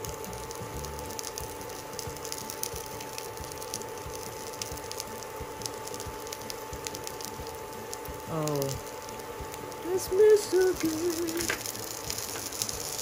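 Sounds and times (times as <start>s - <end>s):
cabbage sizzling in oil: 0.0s - 13.0s
induction cooktop whine: 0.0s - 13.0s.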